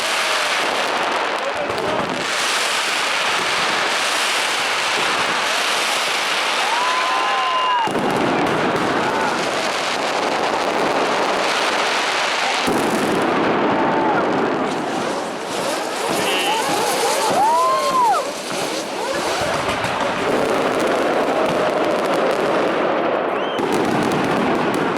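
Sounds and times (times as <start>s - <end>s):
fireworks crackling and banging: 0.0s - 24.9s.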